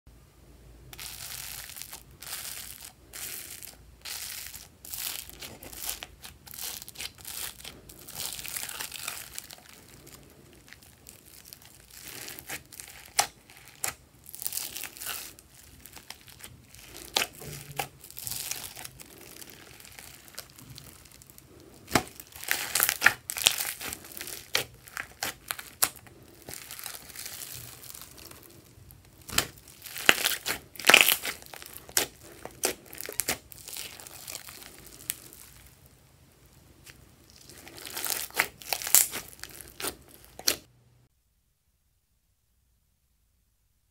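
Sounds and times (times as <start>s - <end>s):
foam beads crackling: 0.9s - 40.7s.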